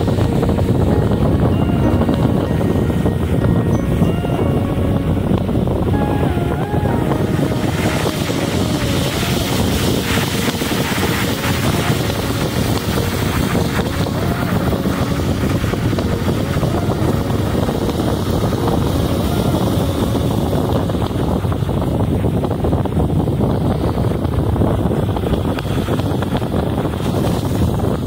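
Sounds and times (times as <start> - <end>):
car road and wind noise: 0.0 - 28.0
wind buffeting microphone: 0.0 - 28.0.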